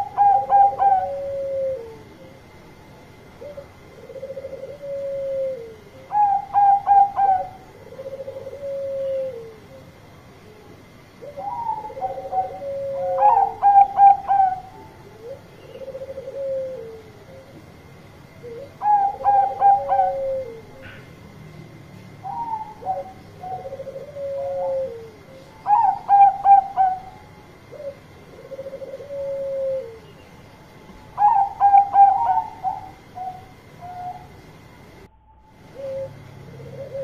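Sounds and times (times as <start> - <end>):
dove cooing: 0.0 - 30.2, 30.8 - 37.0.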